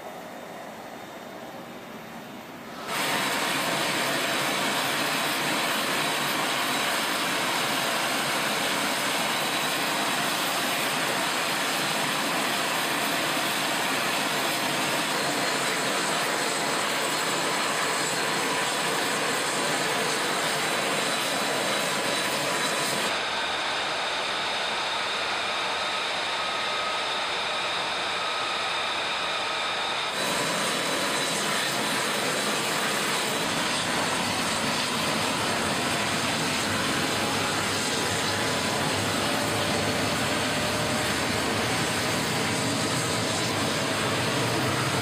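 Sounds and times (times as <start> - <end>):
high turbine whine: 0.0 - 45.0
jet engine rush: 0.0 - 45.0.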